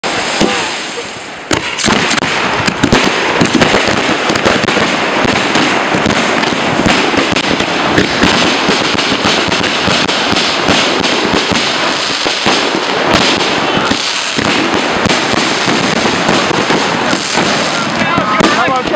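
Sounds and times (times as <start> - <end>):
fireworks bangs and crackling: 0.0 - 18.9.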